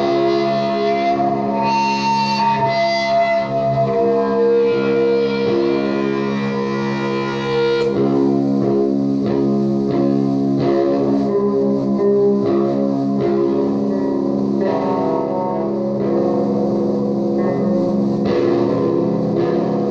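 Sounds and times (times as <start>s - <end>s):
electric guitar drone: 0.0s - 19.9s
picked guitar notes: 0.0s - 19.9s.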